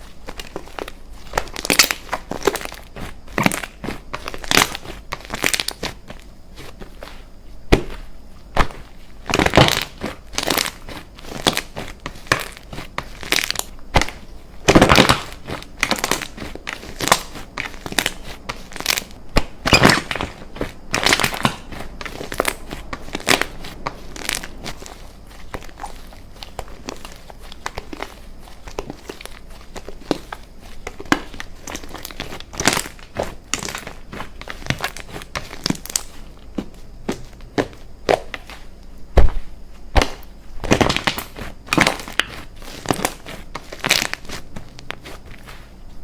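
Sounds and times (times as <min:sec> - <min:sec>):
slime squishing and crackling: 0:00.0 - 0:45.7.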